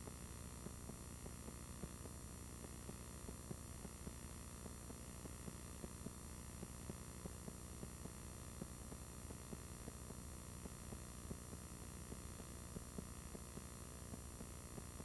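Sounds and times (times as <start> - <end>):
electrical hum and hiss: 0.0 - 15.0
faint crackling ticks: 0.1 - 15.0.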